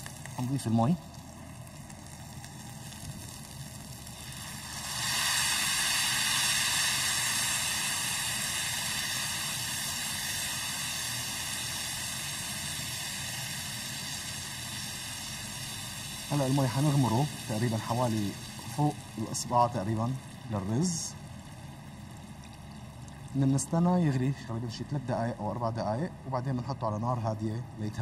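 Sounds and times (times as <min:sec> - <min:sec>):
water sizzling in hot pan: 0:00.0 - 0:25.2.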